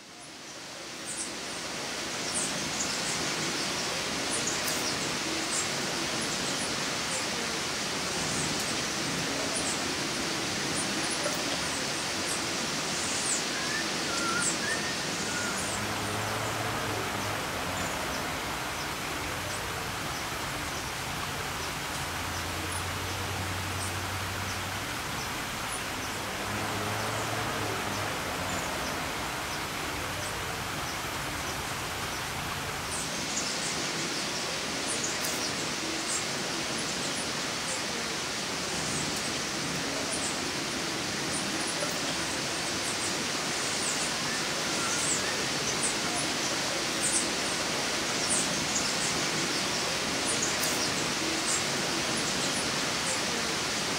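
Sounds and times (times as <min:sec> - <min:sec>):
steady background hiss: 0:00.0 - 0:53.9.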